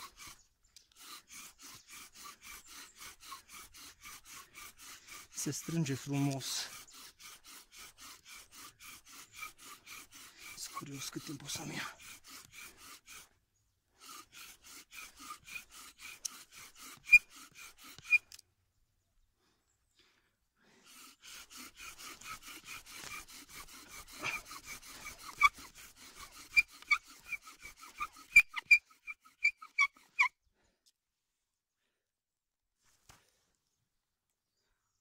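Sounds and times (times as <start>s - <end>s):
bow drill squeaky rubbing: 0.0s - 18.4s, 20.8s - 30.4s.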